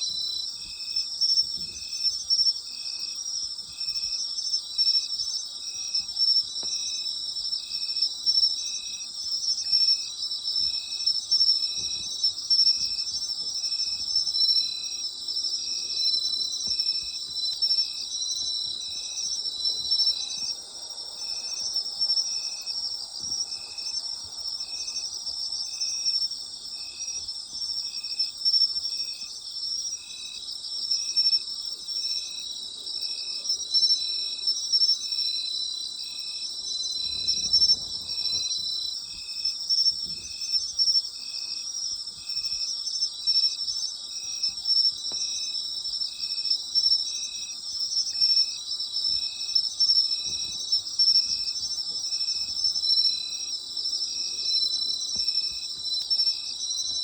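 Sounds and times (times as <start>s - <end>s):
insect chirping rhythmically: 0.0s - 57.0s
insects trilling: 0.0s - 57.0s.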